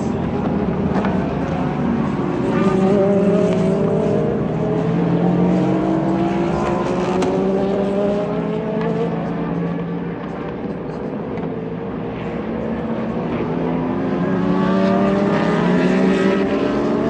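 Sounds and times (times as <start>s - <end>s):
race car engines accelerating: 0.0s - 17.0s.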